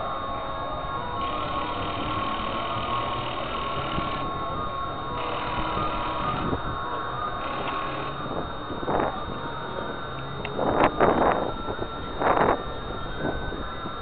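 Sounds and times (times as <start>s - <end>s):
faint high whine: 0.0s - 14.0s
wind buffeting microphone: 0.0s - 14.0s.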